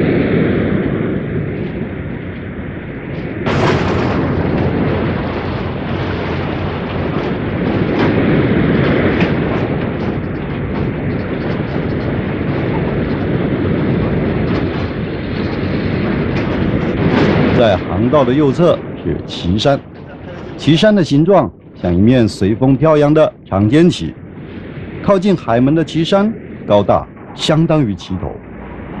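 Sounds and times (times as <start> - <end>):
boat rumbling rush: 0.0 - 29.0.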